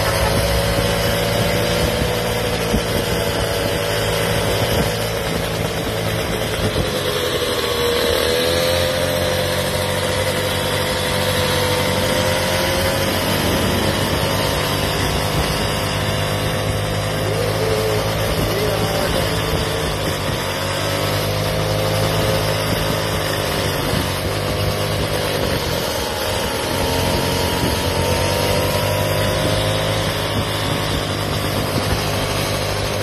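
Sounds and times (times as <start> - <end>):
small scooter engines running: 0.0 - 33.0.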